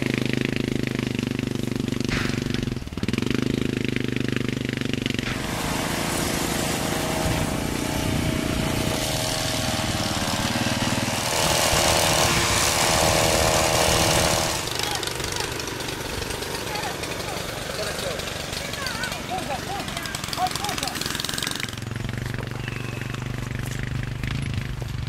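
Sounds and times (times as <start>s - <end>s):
quad bike engine driving: 0.0s - 25.0s
steady engine note: 0.0s - 25.0s.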